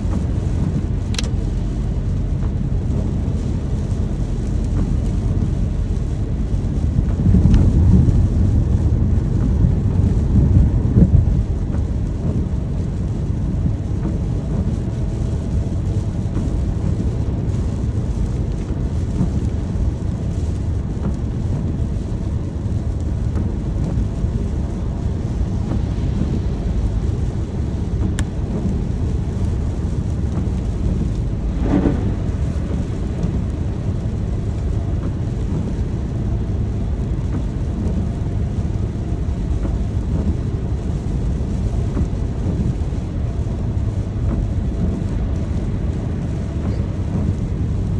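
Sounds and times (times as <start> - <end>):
low rumble of thunder: 0.0 - 47.9
steady rain: 0.0 - 47.9.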